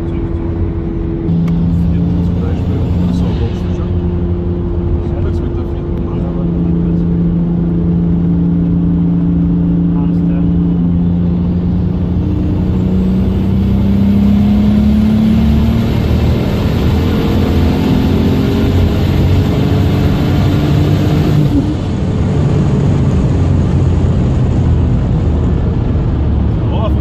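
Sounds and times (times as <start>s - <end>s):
turbo whine: 0.0s - 25.9s
car engine accelerating: 0.0s - 27.0s.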